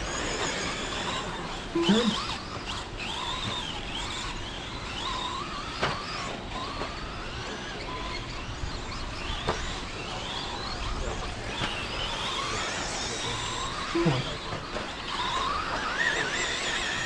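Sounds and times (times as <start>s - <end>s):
electric toy truck motors whining: 0.0s - 17.0s.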